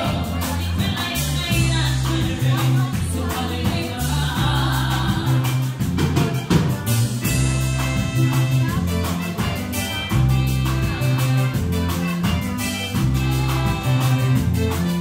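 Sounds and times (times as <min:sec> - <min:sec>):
bass line: 0:00.0 - 0:15.0
drum kit steady beat: 0:00.0 - 0:15.0
person singing: 0:00.0 - 0:15.0.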